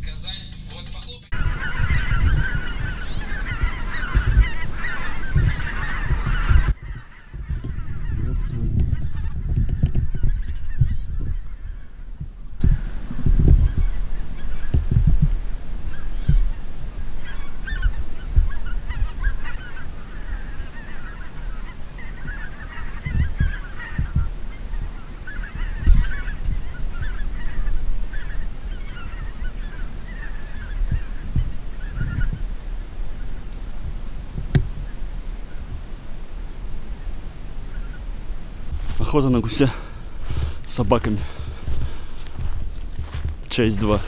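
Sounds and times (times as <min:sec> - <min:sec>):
geese honking in flight: 0:00.0 - 0:44.0
low rumbling thumps: 0:00.0 - 0:44.0.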